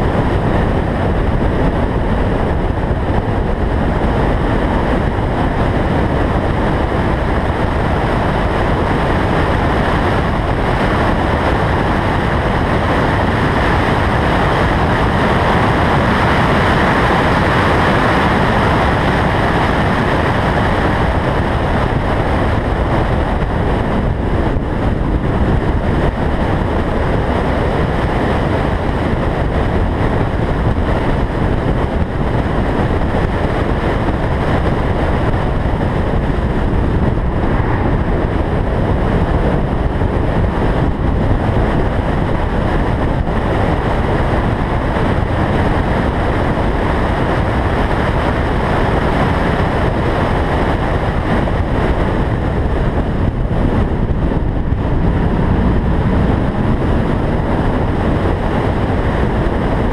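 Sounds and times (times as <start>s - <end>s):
road noise: 0.0s - 59.9s
wind rush: 0.0s - 59.9s.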